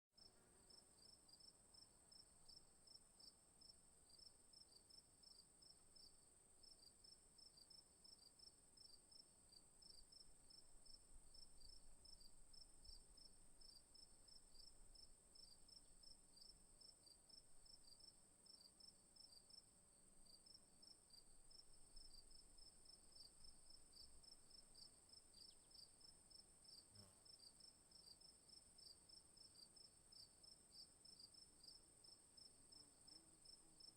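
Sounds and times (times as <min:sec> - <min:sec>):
crickets chirping: 0:00.7 - 0:33.9.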